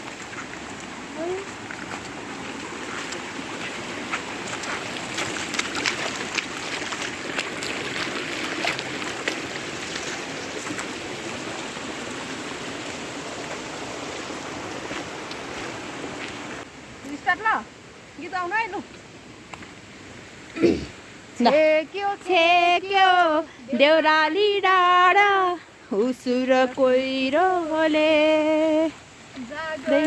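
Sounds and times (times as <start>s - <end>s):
water rushing in a stream: 0.0s - 30.0s.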